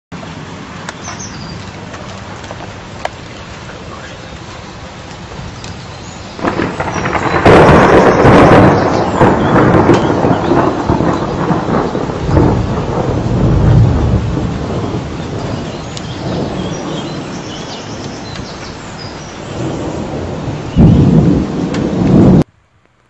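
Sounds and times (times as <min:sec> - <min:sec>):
rain: 0:00.1 - 0:23.0
thunder rumbling: 0:00.2 - 0:22.5.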